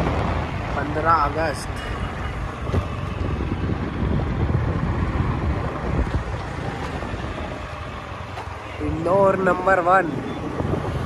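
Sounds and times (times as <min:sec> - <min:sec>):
road and vehicle noise: 0:00.0 - 0:11.0
wind buffeting microphone: 0:00.0 - 0:11.0.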